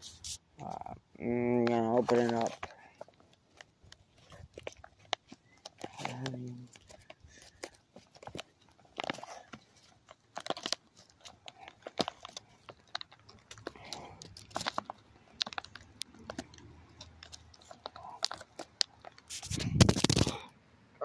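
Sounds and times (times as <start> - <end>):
plastic pouch crinkling: 1.6 - 20.4.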